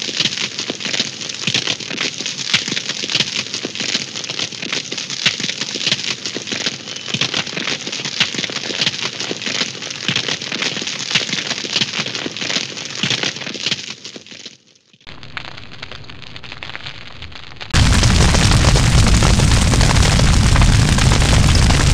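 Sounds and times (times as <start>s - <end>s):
cartoon fire crackling: 0.0s - 21.9s.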